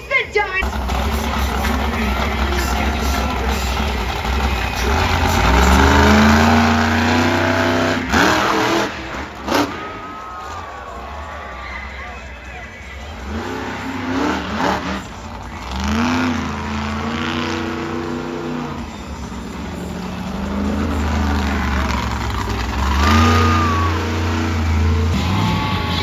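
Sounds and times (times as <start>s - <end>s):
truck engine revving: 0.6s - 26.0s.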